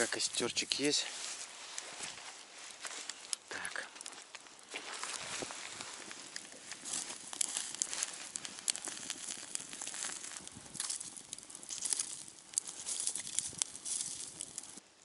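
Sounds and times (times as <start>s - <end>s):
fire hissing: 0.0s - 14.9s
campfire crackling and popping: 0.0s - 15.0s.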